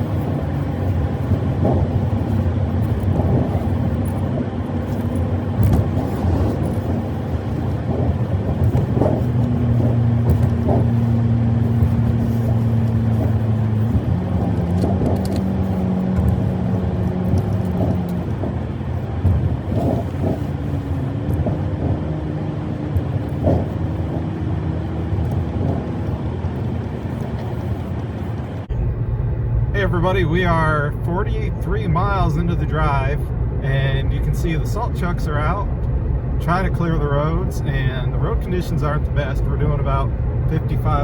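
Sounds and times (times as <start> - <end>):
road noise: 0.0 - 41.0
vehicle engine running: 0.0 - 41.0.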